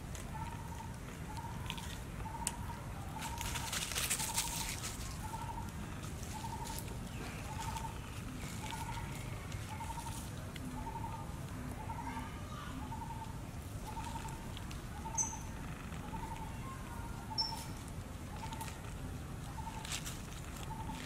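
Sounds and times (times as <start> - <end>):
crackly rustling and crunching: 0.0 - 21.0.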